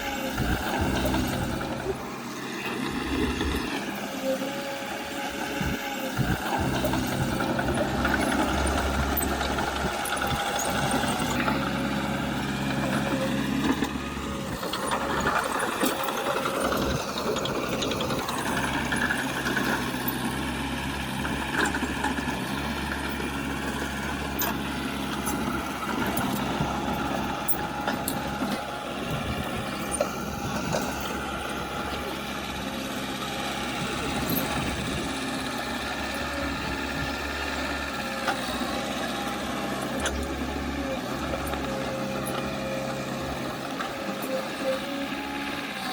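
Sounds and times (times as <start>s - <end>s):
heavy machinery diesel engine: 0.0s - 45.9s.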